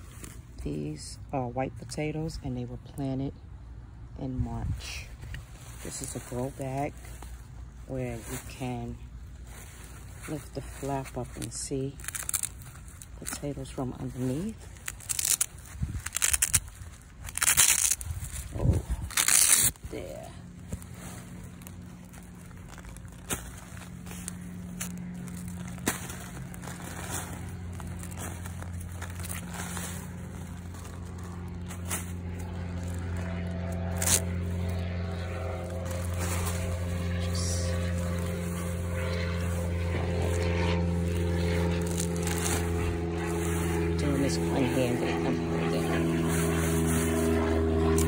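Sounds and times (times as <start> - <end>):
engine drone: 0.0 - 48.0
low hum: 0.0 - 48.0
soil crumbling and rustling: 5.2 - 48.0.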